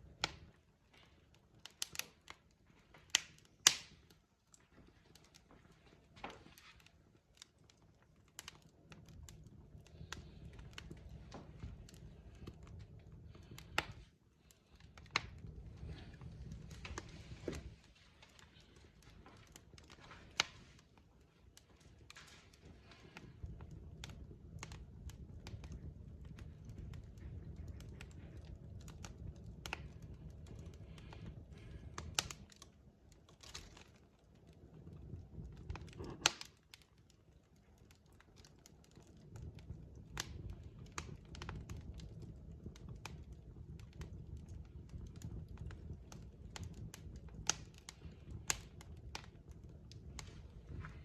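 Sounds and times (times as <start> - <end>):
logs crackling and popping: 0.0 - 51.0
low rumble of flame: 0.0 - 51.0.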